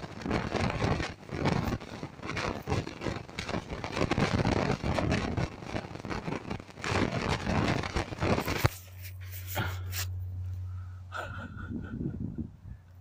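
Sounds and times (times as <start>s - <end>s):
steady low hum: 0.1s - 13.0s.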